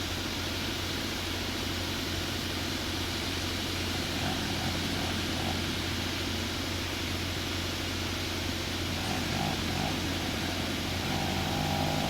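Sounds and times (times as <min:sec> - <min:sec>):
chainsaw engine running steadily: 0:02.2 - 0:12.0.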